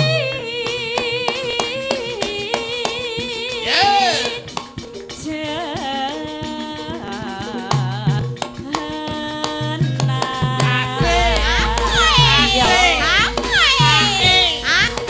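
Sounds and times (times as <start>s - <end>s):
women singing with vibrato: 0.0s - 4.5s, 5.2s - 15.0s
hand drums beating: 0.0s - 15.0s.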